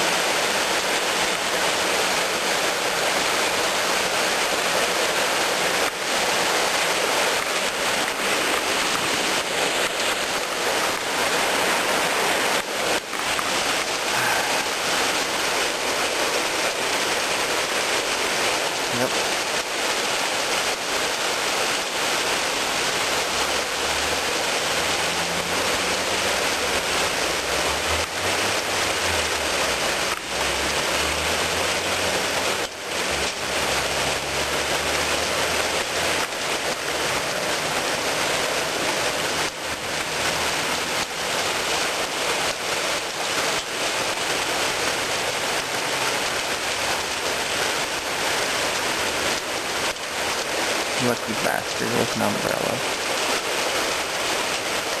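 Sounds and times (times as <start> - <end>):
heavy rain on hard surfaces: 0.0 - 55.0.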